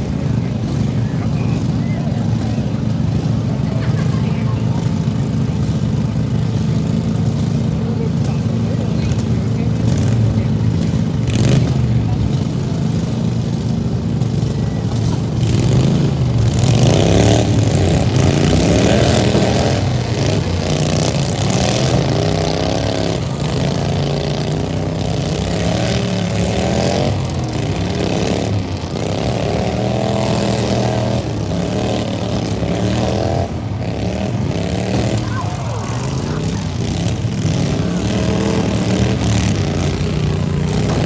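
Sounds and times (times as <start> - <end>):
lawn mower engines revving: 0.0 - 41.0.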